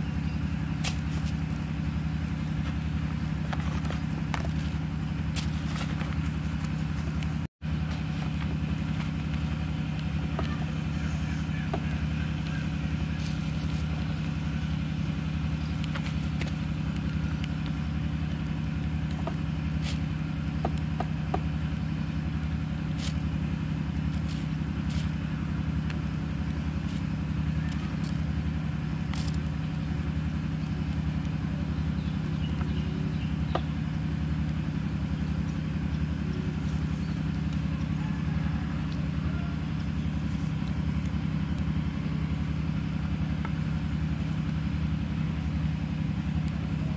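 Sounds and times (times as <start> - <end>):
motor engine humming: 0.0 - 46.9.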